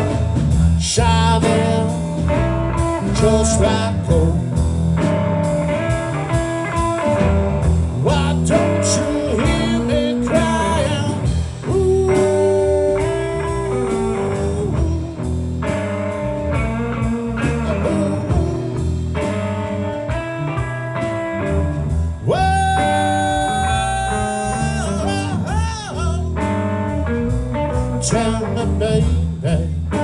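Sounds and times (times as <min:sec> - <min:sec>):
blues-rock band playing: 0:00.0 - 0:30.0
lead guitar notes: 0:04.7 - 0:29.2.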